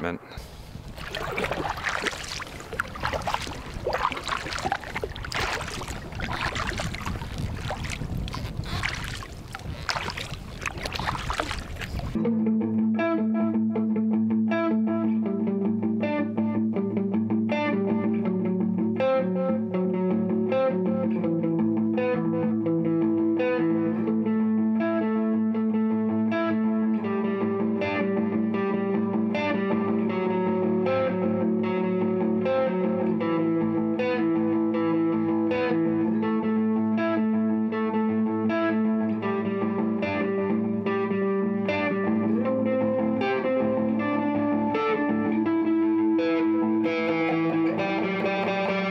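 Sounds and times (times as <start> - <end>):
guitar instrumental music: 0.4 - 48.9.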